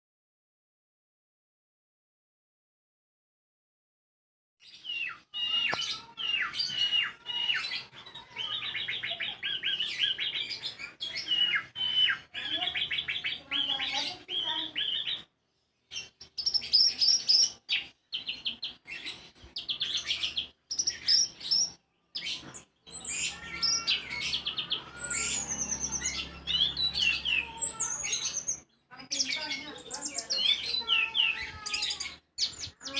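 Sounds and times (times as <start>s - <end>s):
songbird singing trills: 4.6s - 32.9s.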